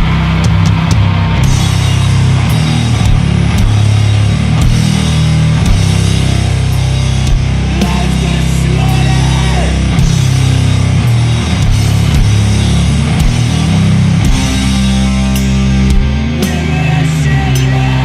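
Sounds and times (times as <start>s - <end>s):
distorted guitars and bass: 0.0s - 18.0s
drum and cymbal hits: 0.0s - 18.0s.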